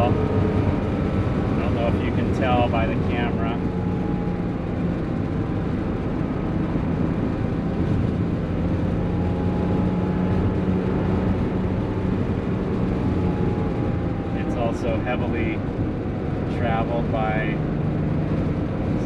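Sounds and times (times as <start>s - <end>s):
car engine running: 0.0s - 19.0s
road noise: 0.0s - 19.0s.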